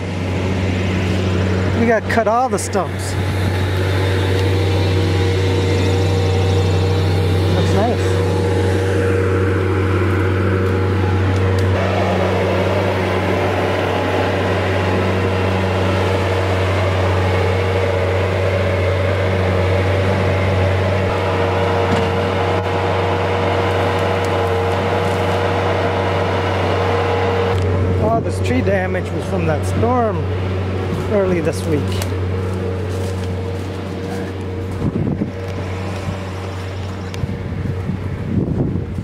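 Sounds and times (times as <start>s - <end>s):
broad machine noise: 0.0s - 39.0s
loader diesel engine running: 0.0s - 39.0s.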